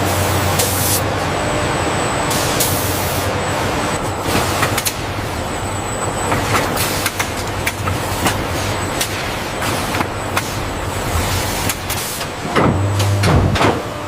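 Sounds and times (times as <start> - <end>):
factory machinery humming: 0.0 - 14.0.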